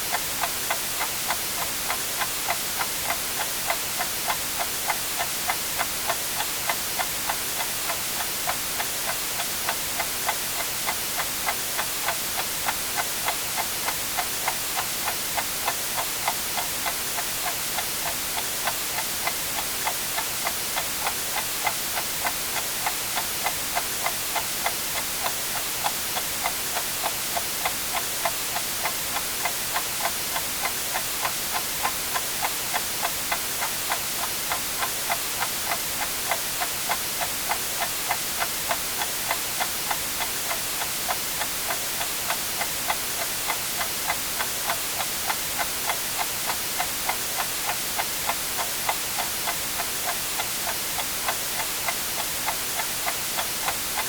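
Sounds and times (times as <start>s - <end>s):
white noise hiss: 0.0s - 54.0s
clock ticking: 0.1s - 54.0s.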